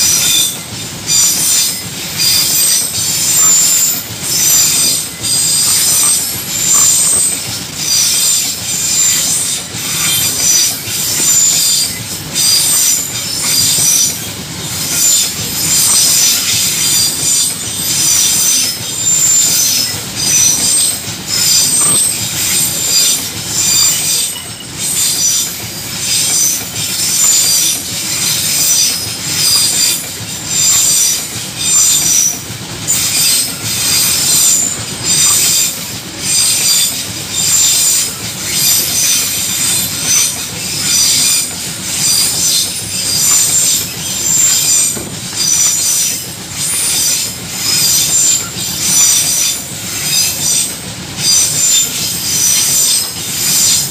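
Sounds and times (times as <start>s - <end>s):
train rumbling: 0.0s - 53.9s
train wheels squealing on rails: 0.0s - 53.9s.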